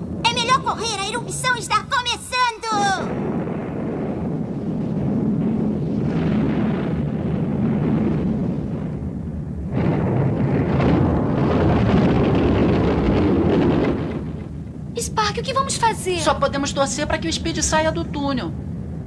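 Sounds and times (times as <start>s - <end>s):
volcano eruption rumble: 0.0s - 19.0s.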